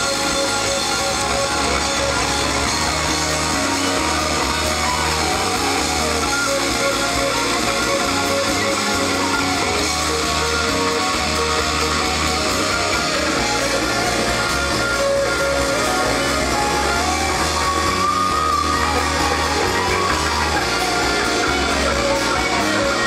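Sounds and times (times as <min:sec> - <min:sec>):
bass line of held notes: 0:00.0 - 0:23.0
electric guitar: 0:00.0 - 0:23.0.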